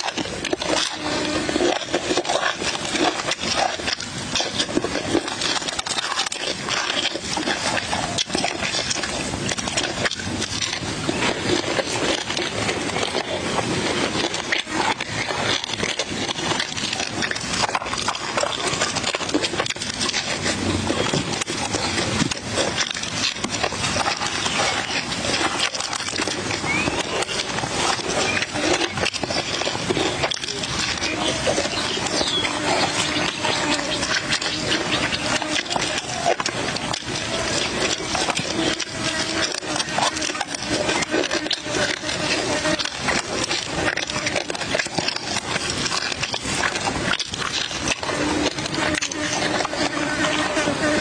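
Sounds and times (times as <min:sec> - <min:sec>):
chewing and lip smacking: 0:00.0 - 0:51.0
small crackling clicks: 0:00.0 - 0:51.0.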